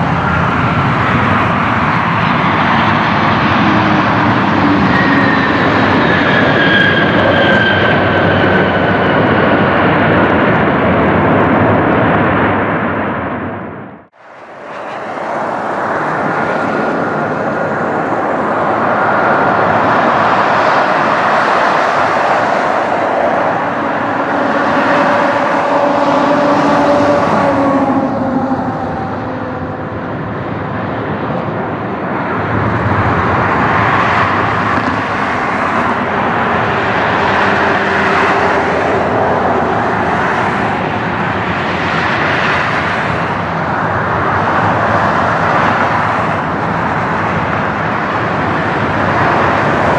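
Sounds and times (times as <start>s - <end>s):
jet engines passing close: 0.0s - 49.9s.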